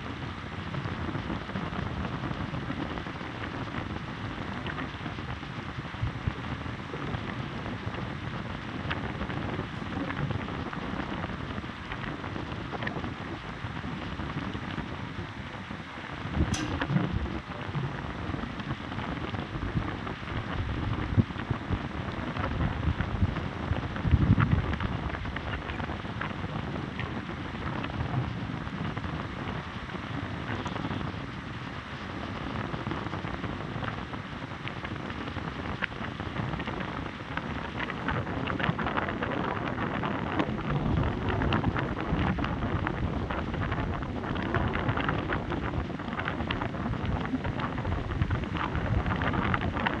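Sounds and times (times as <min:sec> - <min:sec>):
heavy rain falling: 0:00.0 - 0:50.0
low rumble: 0:00.0 - 0:50.0.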